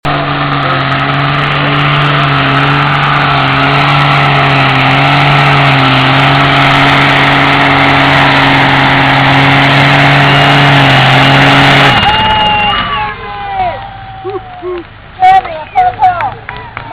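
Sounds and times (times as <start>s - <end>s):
truck engine at high revs: 0.0s - 16.9s.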